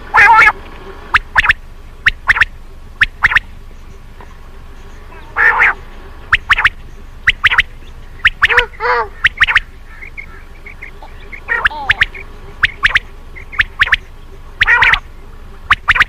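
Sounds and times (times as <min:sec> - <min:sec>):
low drawn-out bird calls: 0:00.0 - 0:16.0
quail calling: 0:00.0 - 0:16.0.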